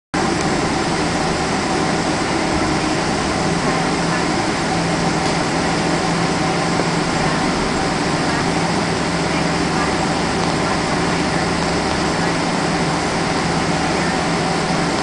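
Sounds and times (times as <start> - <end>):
airplane cabin engine idle rush: 0.2 - 15.0
low steady hum: 0.2 - 15.0.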